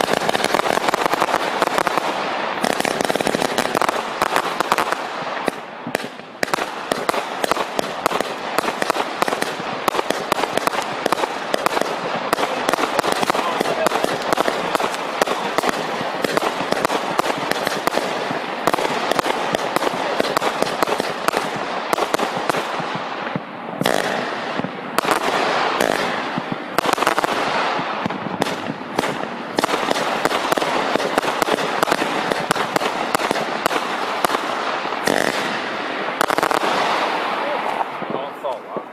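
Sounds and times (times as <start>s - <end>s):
firework cake barrage: 0.0s - 38.9s.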